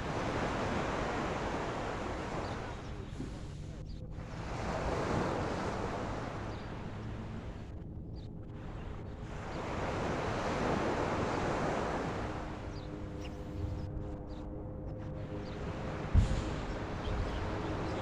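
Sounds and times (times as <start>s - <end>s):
ocean waves washing ashore: 0.0s - 7.8s, 8.5s - 14.4s, 15.0s - 18.0s.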